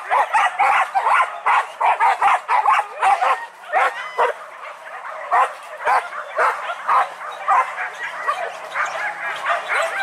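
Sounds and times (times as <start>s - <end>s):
dogs barking and yelping: 0.0s - 10.0s.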